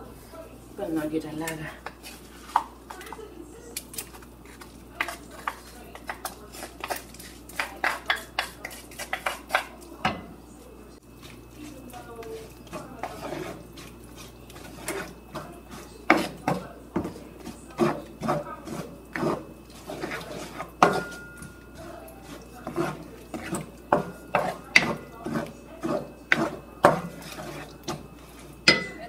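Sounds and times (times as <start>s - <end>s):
cooking utensils knocking and scraping: 1.4s - 10.4s, 11.0s - 29.0s.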